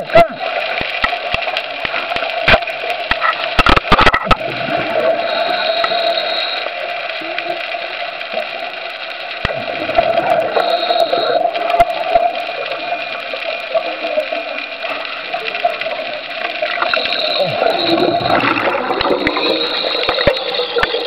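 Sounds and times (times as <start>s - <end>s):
underwater rushing and bubbling: 0.0s - 21.0s
faint clicks: 0.5s - 4.5s, 5.3s - 21.0s.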